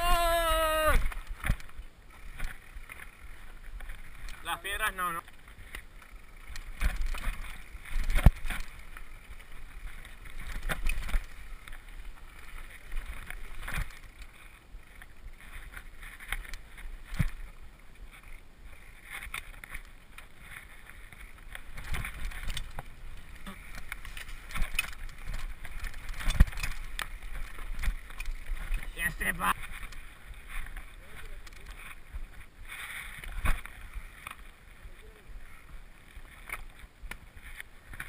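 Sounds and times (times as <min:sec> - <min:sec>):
bike knocking and rattling: 0:00.0 - 0:38.0
bike tyres over dirt and stones: 0:00.0 - 0:38.0.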